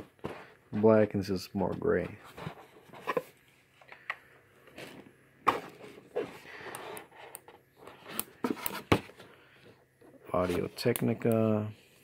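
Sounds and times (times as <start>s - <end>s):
rustling and scraping: 0.0s - 3.8s, 4.6s - 10.9s.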